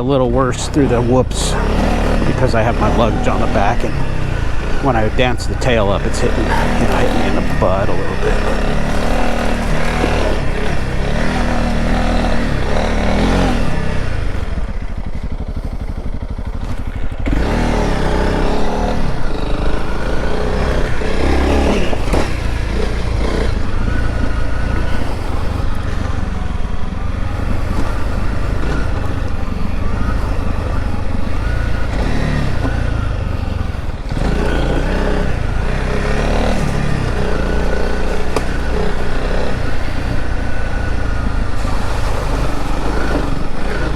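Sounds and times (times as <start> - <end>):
motorcycle engine under load: 0.0 - 43.9.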